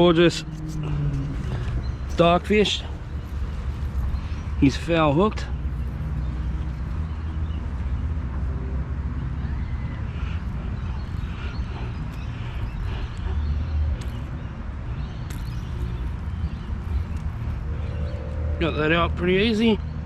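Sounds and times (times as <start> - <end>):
low outdoor background rumble: 0.0 - 20.0.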